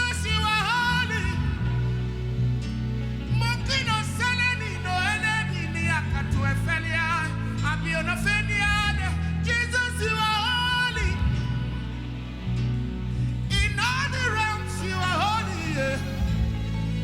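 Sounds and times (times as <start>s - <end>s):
gospel singing with vibrato: 0.0s - 17.0s
steady bass line: 0.0s - 17.0s.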